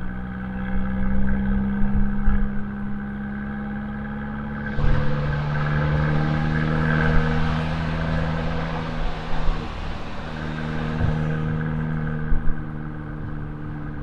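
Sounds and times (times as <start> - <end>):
car engine exhaust revving: 0.0 - 14.0.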